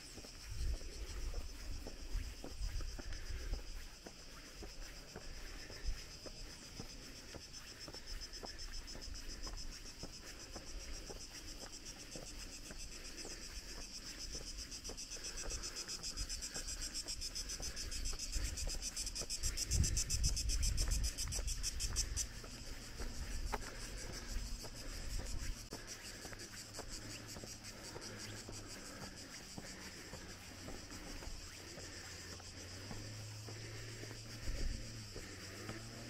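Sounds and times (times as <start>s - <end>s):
cicadas buzzing: 0.0s - 36.0s.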